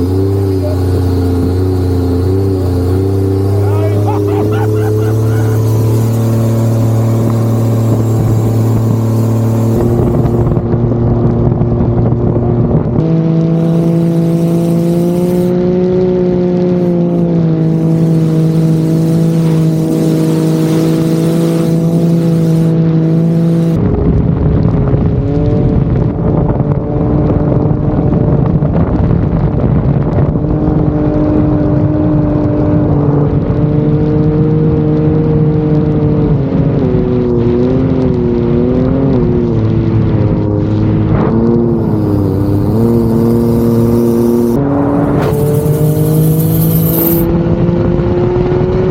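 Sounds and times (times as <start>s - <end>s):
boat engine running hard: 0.0s - 48.9s.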